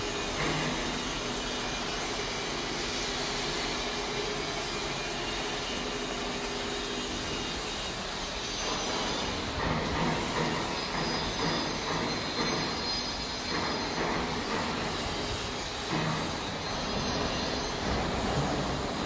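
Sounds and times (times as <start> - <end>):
production-line machinery running: 0.0 - 19.0.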